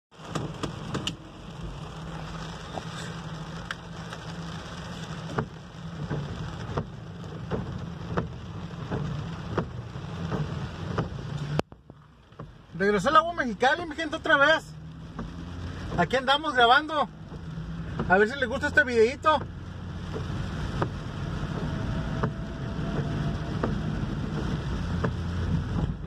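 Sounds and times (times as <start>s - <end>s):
car engine humming: 0.1s - 26.0s
rain on a car roof: 0.1s - 26.0s
sharp ticks of raindrops: 0.1s - 26.0s.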